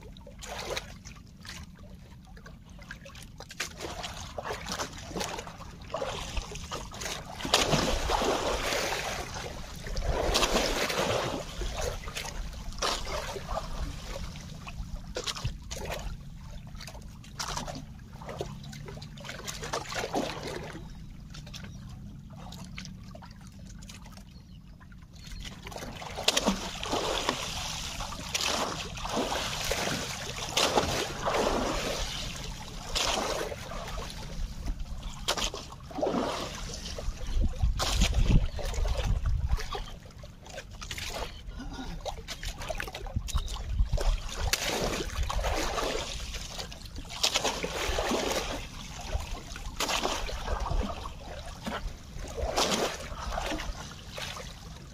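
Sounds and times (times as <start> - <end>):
water splashing and trickling: 0.0 - 54.9.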